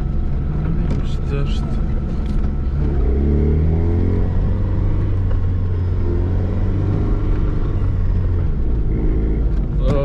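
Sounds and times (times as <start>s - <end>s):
car engine running from inside cabin: 0.0s - 10.0s.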